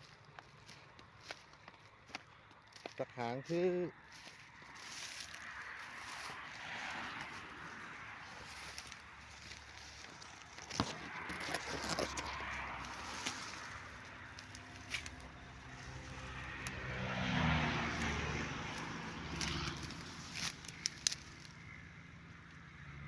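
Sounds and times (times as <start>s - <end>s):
footsteps on dry ground: 0.0s - 21.6s
vehicle engine passing by: 2.7s - 23.0s.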